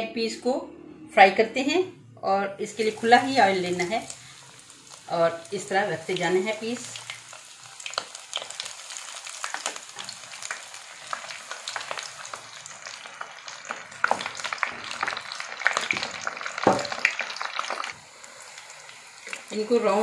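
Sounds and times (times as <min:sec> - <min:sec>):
chicken deep-frying in oil: 0:02.7 - 0:20.0.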